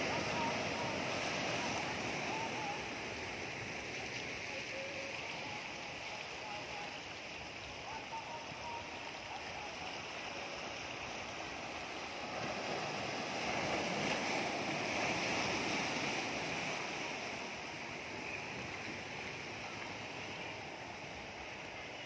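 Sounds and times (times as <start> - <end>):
waves breaking on rocky shore: 0.0 - 22.0.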